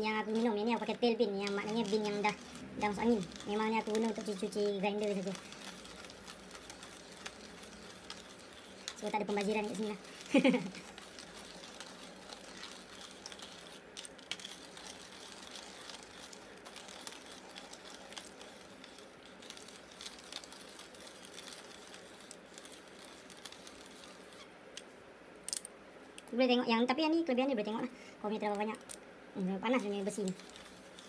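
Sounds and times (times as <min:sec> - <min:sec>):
hand coffee grinder grinding: 0:00.0 - 0:24.5, 0:29.7 - 0:31.0.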